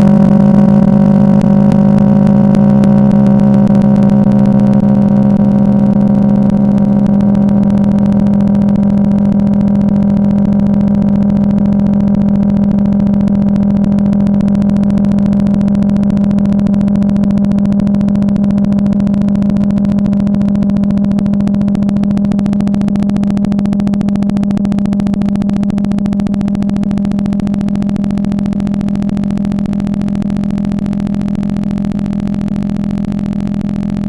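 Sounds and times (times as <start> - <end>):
low buzzing drone: 0.0 - 34.0.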